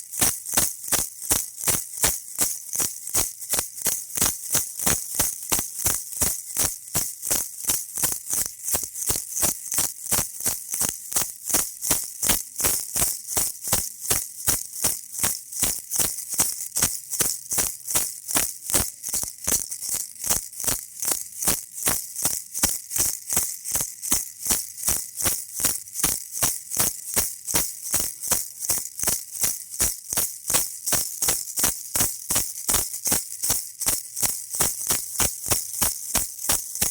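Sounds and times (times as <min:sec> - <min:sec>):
baby rattle shaken: 0:00.0 - 0:36.9.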